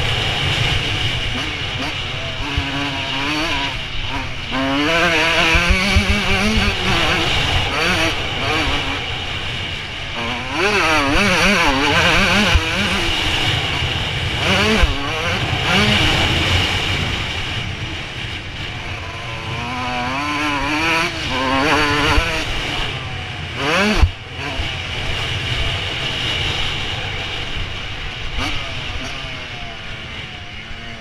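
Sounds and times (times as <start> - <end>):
two-stroke motorcycle engine revving: 0.0 - 31.0.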